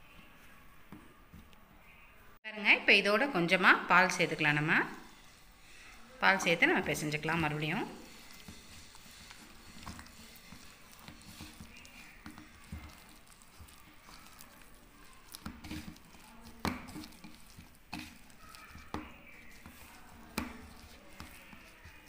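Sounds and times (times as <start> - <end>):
hand kneading soft dough: 3.3 - 22.0.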